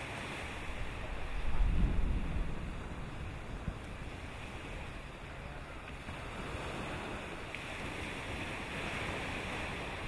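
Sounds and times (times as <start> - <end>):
surf washing on shore: 0.0 - 10.0
wind on microphone: 0.0 - 10.0.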